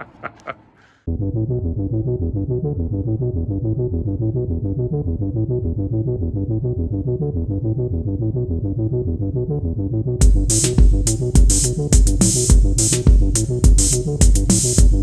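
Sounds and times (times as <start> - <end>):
synthesizer repeated notes: 1.1 - 15.0.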